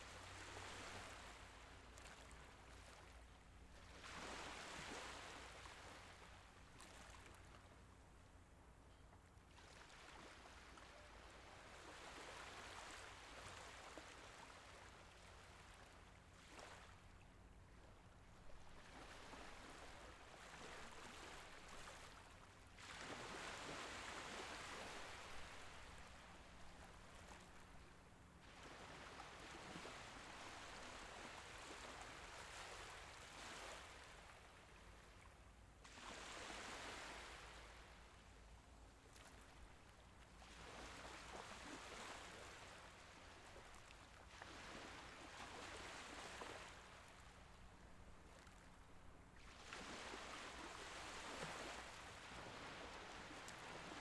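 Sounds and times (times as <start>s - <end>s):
small waves washing in: 0.0s - 7.6s, 9.6s - 54.0s.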